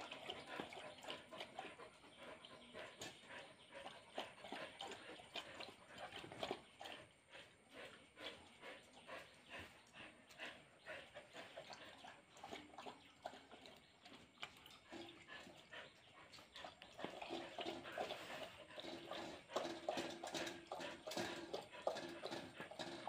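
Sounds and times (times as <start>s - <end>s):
dogs squabbling: 0.1s - 23.0s.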